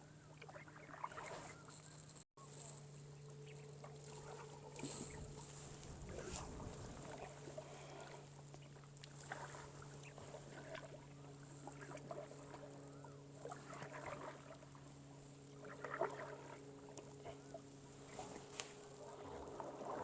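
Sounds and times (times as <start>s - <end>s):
low hum: 0.0s - 20.0s
paddle splashing in water: 0.4s - 1.7s, 3.8s - 20.0s.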